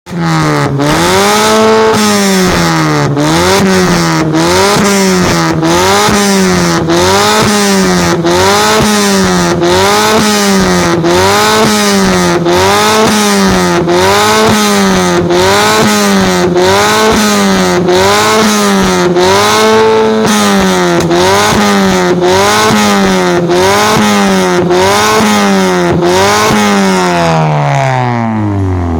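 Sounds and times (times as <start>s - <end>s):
car engine revving: 0.1s - 28.9s.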